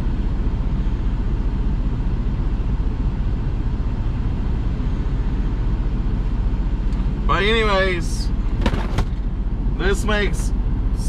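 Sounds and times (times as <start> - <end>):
road noise: 0.0 - 11.0
truck diesel engine rumble: 0.0 - 11.0.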